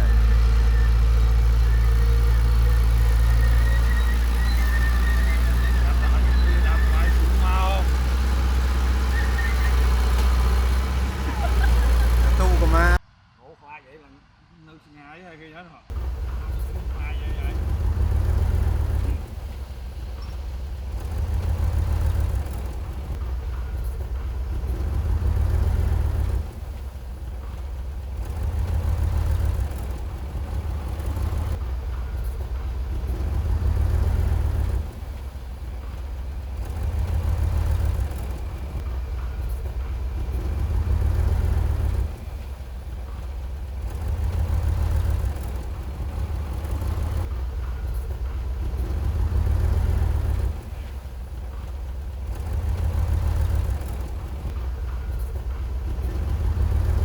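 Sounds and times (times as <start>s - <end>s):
heavy diesel engine rumbling: 0.0s - 13.1s, 15.9s - 57.0s.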